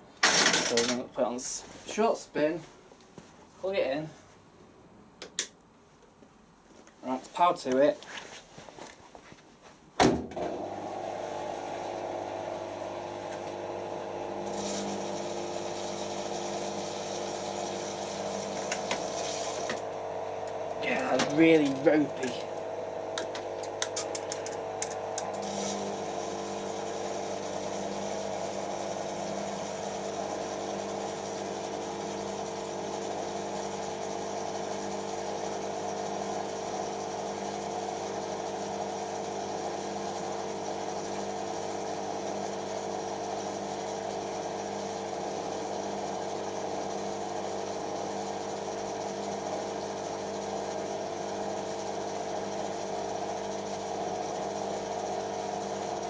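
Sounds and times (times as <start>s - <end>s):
washing machine motor spinning: 10.4s - 56.0s.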